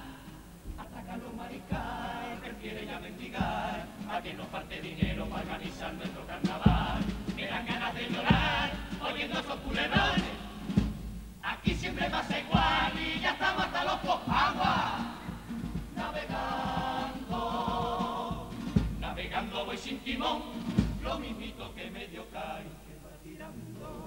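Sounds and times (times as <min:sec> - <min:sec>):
guitar accompaniment: 0:00.0 - 0:21.5
choir singing in harmony: 0:00.0 - 0:24.0
low drum beat: 0:00.6 - 0:21.7.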